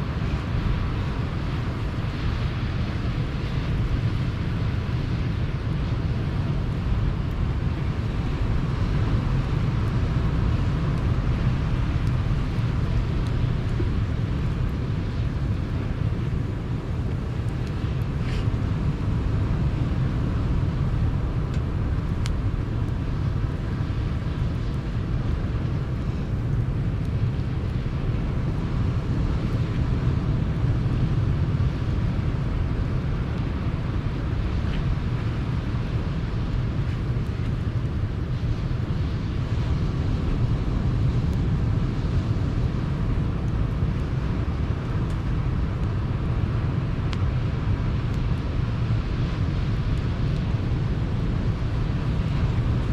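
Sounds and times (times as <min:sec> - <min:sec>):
campfire pops: 0:06.7 - 0:31.2, 0:31.9 - 0:52.9.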